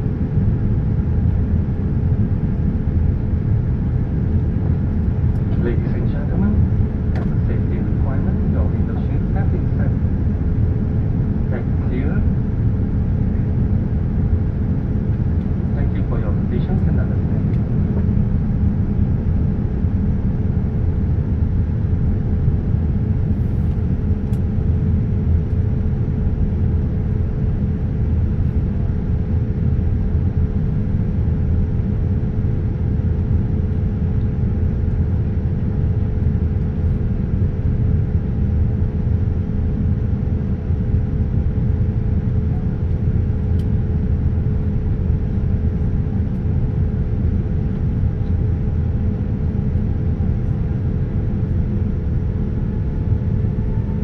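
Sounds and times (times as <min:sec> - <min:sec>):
airliner cabin rumble: 0:00.0 - 0:54.0
faint steady hum: 0:00.0 - 0:54.0.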